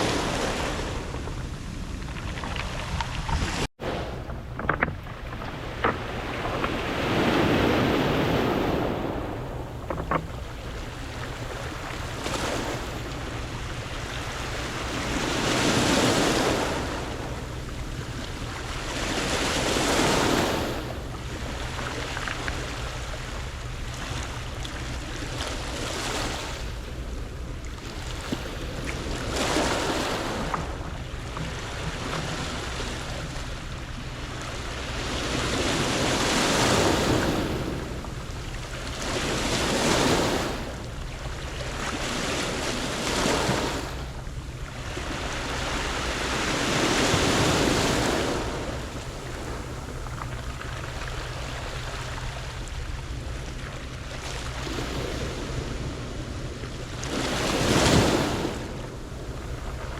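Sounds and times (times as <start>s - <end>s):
waves washing on pebble beach: 0.0s - 26.9s, 27.8s - 44.1s, 44.7s - 53.2s, 54.2s - 59.9s.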